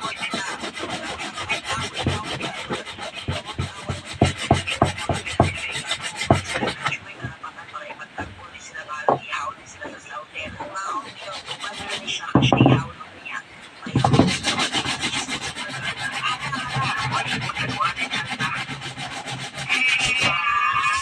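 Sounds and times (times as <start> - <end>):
hand tool scraping: 0.0 - 13.0, 13.8 - 21.0.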